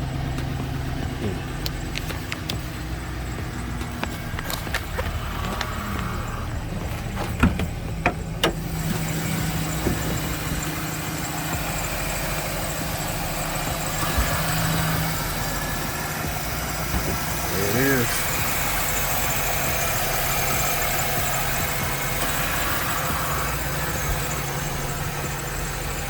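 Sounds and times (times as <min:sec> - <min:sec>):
pickup truck engine idling: 0:00.0 - 0:26.0.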